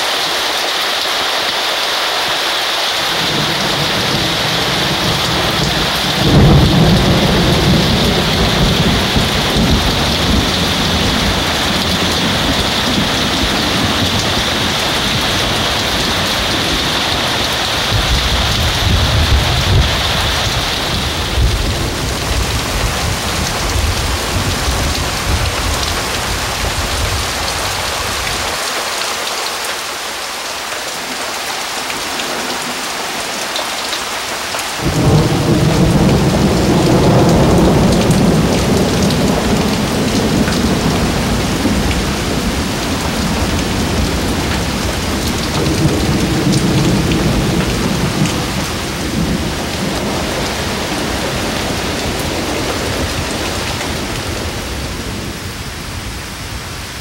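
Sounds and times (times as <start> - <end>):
heavy rain on pavement: 0.0 - 57.0
thunder rumbling: 3.1 - 28.5, 34.7 - 56.6.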